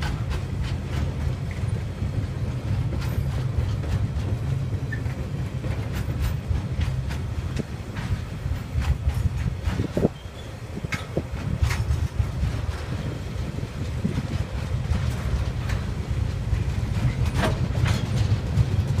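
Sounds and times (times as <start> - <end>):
train wagons rumbling past: 0.0 - 19.0
wheels clacking over rail joints: 0.0 - 19.0.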